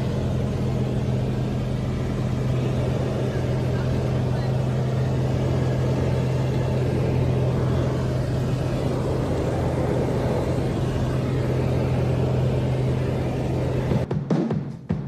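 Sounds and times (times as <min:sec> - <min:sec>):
propeller airplane engine droning: 0:00.0 - 0:14.1.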